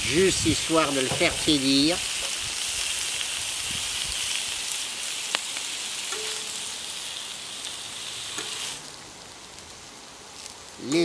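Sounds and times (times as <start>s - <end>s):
meat sizzling on hot plate: 0.0s - 11.0s.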